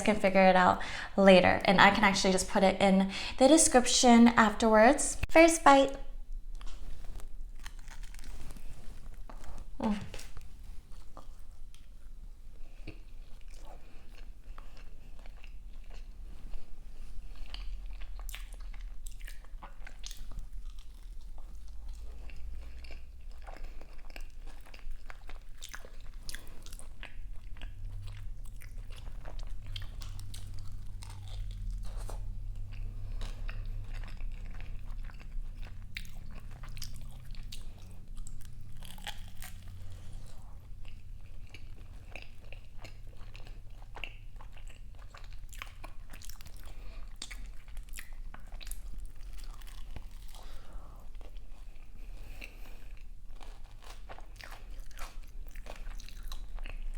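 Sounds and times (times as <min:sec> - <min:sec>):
person chewing crunchy pastry: 0:05.7 - 0:56.9.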